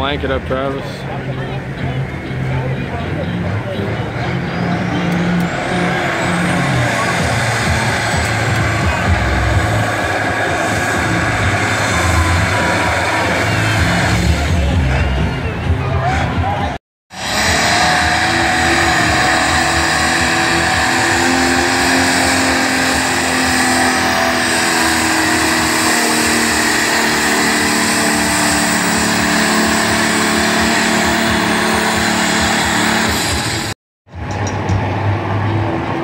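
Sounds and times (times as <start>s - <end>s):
diesel tractor engine at full throttle: 0.0s - 36.0s.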